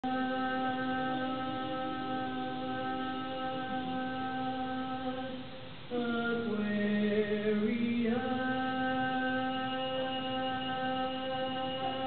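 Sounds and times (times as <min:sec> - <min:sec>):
women singing a cappella: 0:00.0 - 0:12.0.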